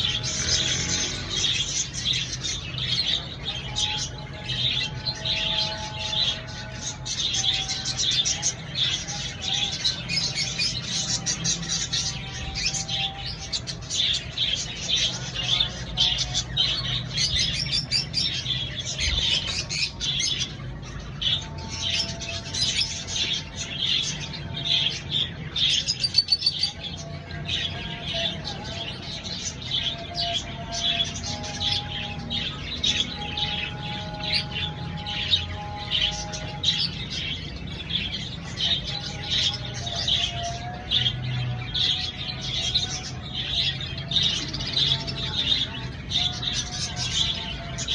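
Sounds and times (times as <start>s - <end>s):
lovebirds chirping and chattering: 0.0s - 47.9s.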